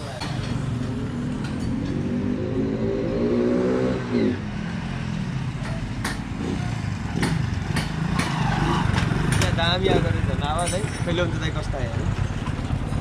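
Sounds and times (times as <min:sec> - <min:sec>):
motorcycle engine revving: 0:00.7 - 0:13.0.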